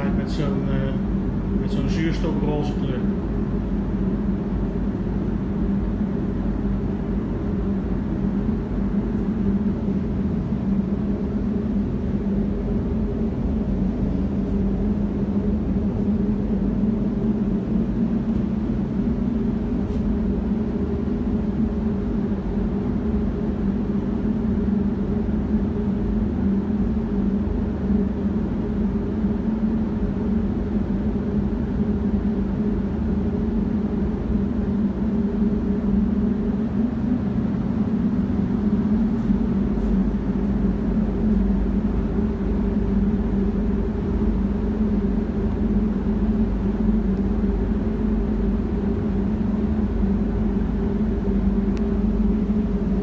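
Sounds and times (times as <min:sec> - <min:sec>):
ventilation fans humming: 0:00.0 - 0:53.0.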